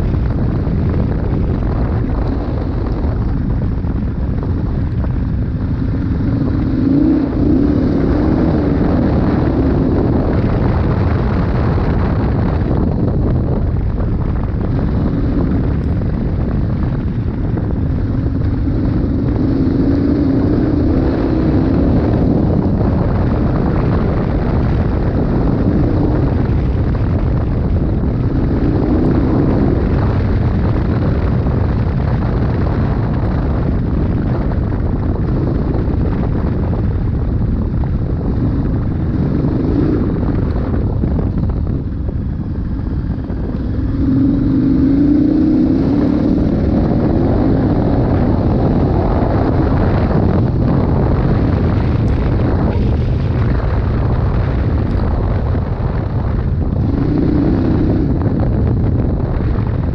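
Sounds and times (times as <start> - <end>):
motorcycle engine running: 0.0 - 59.9
wind rush: 0.0 - 59.9.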